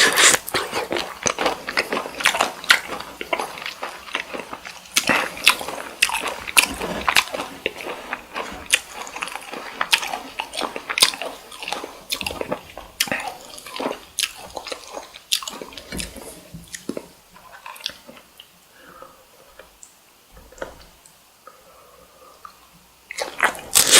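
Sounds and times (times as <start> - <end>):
biting and chewing shrimp: 0.0 - 18.5, 23.1 - 23.9.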